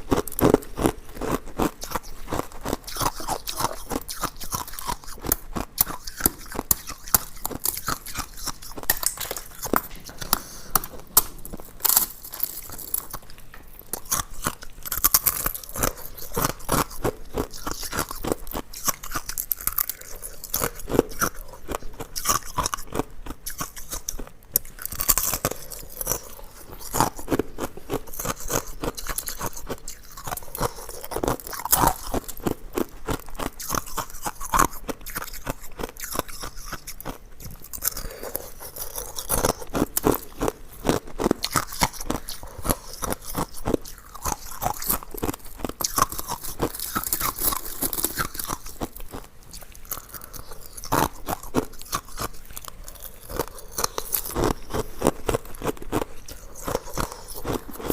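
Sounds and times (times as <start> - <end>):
chewing ice crunches: 0.0 - 57.9.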